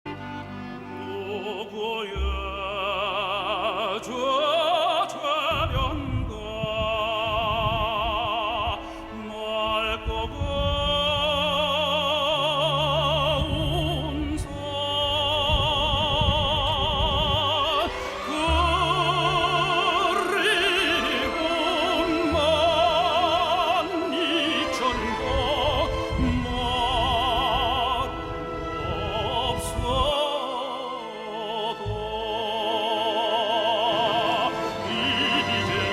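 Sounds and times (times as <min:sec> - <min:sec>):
orchestral accompaniment: 0:00.1 - 0:35.9
tenor singing with vibrato: 0:00.1 - 0:35.9.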